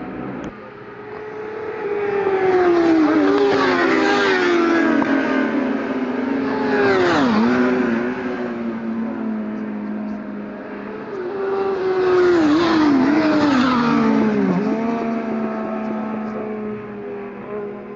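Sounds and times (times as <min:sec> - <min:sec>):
motorcycles passing at high revs: 0:00.0 - 0:17.9.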